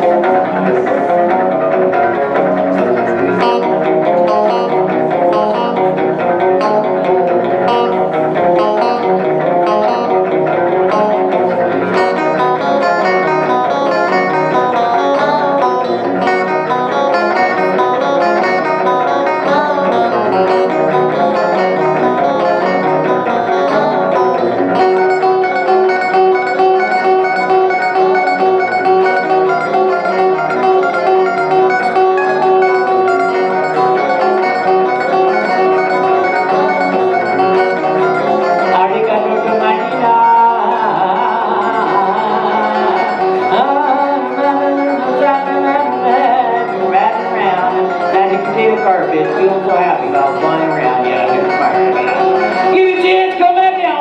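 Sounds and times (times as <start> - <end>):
live plucked guitar music: 0.0 - 54.0.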